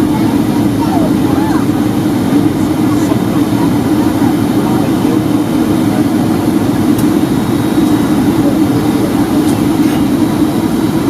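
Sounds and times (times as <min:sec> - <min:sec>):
airplane cabin engine roar: 0:00.0 - 0:11.0.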